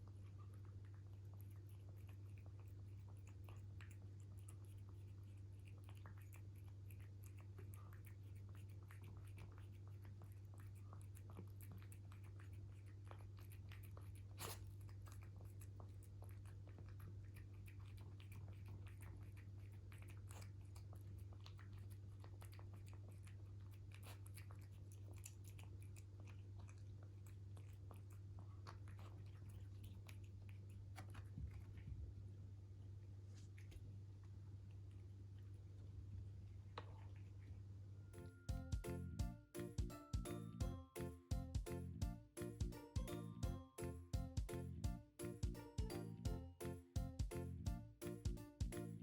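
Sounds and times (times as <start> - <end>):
cat chewing: 0.0 - 40.2.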